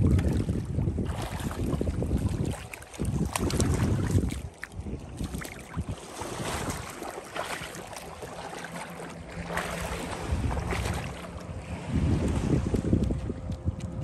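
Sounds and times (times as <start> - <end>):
small splashes: 0.0 - 13.2
water lapping around legs: 0.0 - 14.0
wind buffeting microphone: 0.0 - 14.0.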